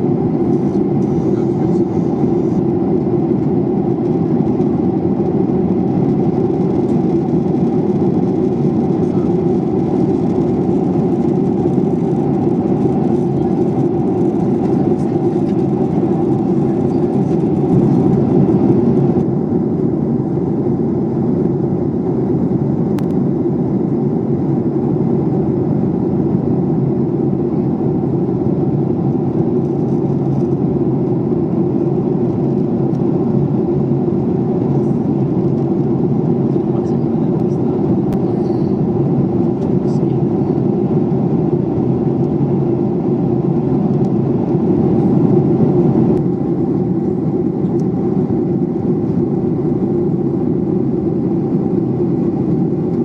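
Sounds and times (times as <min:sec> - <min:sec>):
jet engines and airflow rushing: 0:00.0 - 0:53.0.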